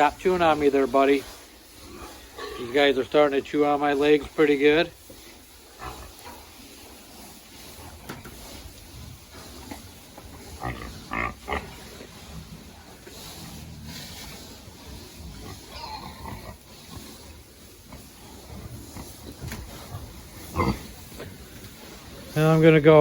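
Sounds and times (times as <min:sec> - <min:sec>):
pigs grunting: 0:00.0 - 0:22.4.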